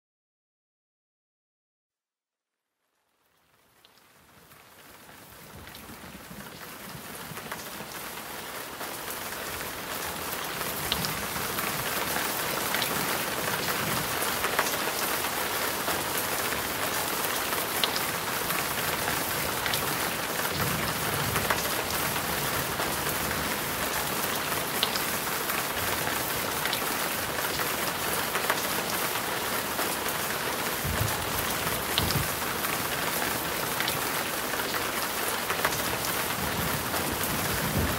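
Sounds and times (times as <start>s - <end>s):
raindrops ticking on hard surfaces: 3.0s - 37.9s
heavy rain pouring: 3.2s - 37.9s.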